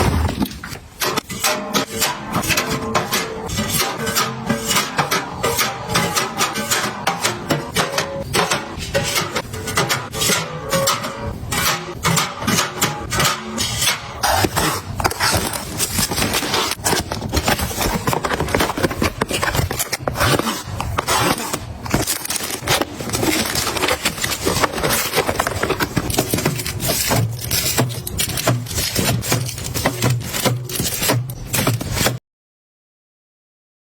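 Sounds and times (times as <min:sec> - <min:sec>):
household items scraping and rubbing: 0:00.0 - 0:32.2.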